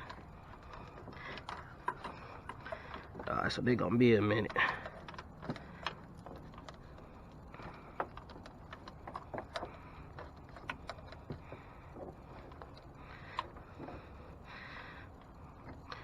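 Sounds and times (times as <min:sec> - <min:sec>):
low steady hum: 0:00.0 - 0:16.0
small parts clicking and rustling: 0:00.0 - 0:16.0.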